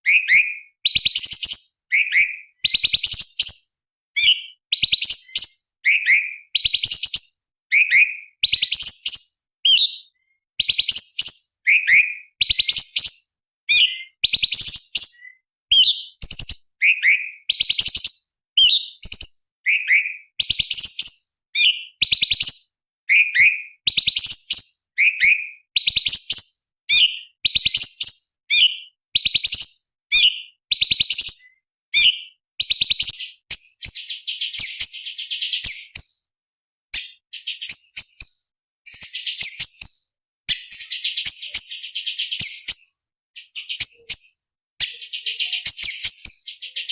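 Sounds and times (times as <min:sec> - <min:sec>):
bird singing: 0:00.0 - 0:36.3, 0:37.0 - 0:46.9.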